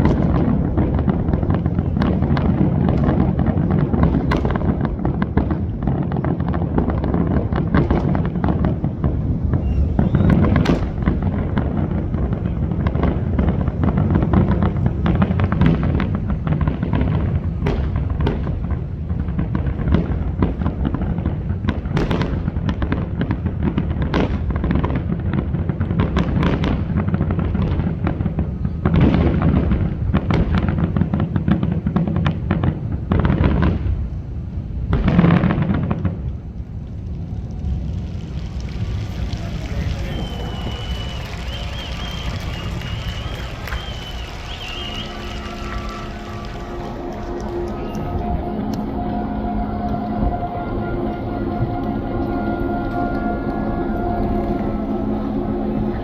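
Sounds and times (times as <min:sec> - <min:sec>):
fireworks bangs and cracks: 0:00.0 - 0:49.2
low rumble of booms: 0:00.0 - 0:50.6.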